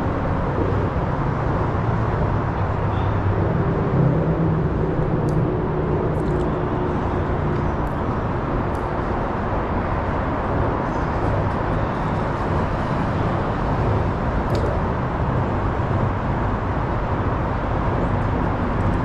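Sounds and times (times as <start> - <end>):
traffic rumbling over bridge: 0.0 - 19.0.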